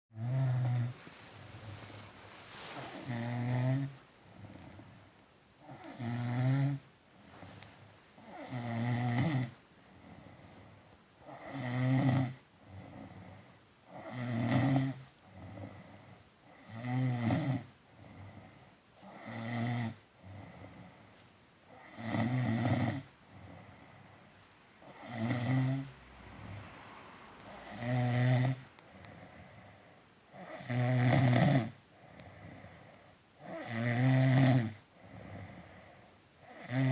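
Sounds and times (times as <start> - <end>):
person snoring: 0.1 - 2.0, 2.6 - 5.0, 5.6 - 7.4, 8.2 - 21.1, 21.7 - 24.2, 24.8 - 26.6, 27.4 - 36.9
quiet breathing: 0.2 - 36.9.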